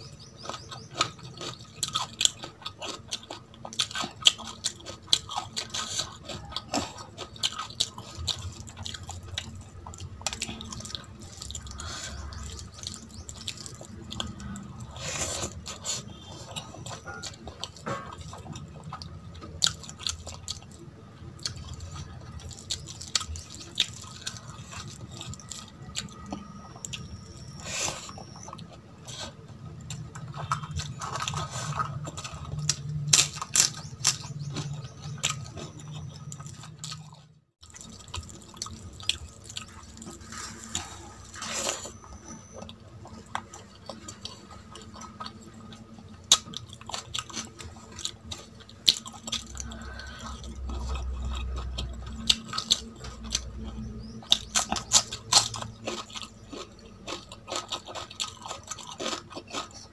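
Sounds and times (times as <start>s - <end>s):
wet chewing and mouth smacks: 0.0s - 59.9s.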